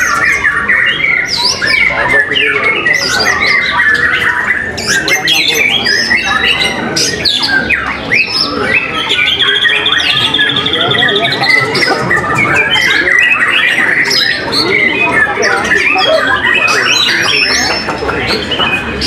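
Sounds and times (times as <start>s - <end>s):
birds singing: 0.0s - 19.0s
rapid bird trill: 0.0s - 19.0s.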